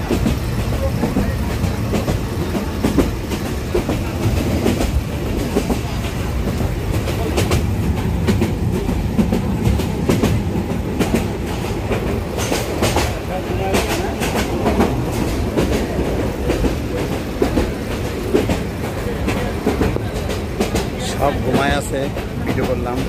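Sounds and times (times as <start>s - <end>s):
train rumbling: 0.0s - 23.0s
train wheels clacking over rails: 0.0s - 23.0s.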